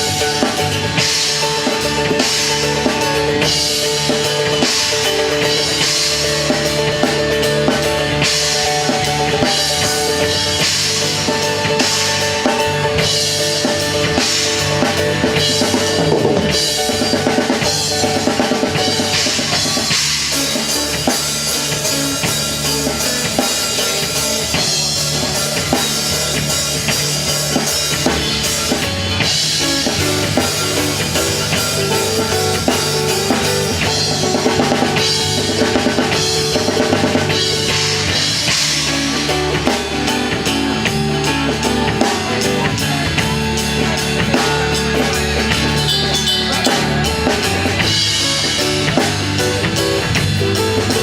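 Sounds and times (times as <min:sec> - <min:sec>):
band playing: 0:00.0 - 0:51.0
bass drum and snare beat: 0:00.0 - 0:51.0.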